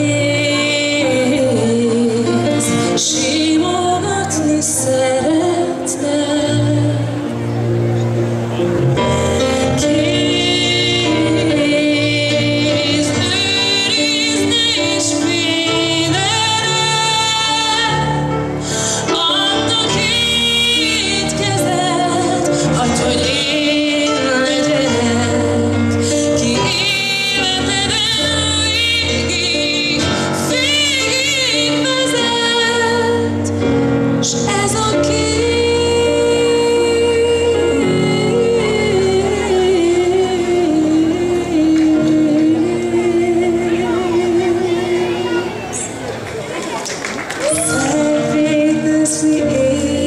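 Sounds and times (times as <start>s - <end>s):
woman singing into microphone: 0.0s - 7.6s, 9.1s - 46.0s, 47.4s - 50.0s
backing music: 0.0s - 50.0s.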